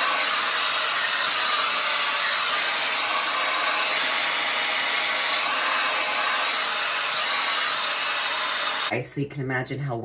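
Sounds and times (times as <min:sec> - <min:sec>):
hair dryer blowing air: 0:00.0 - 0:08.9.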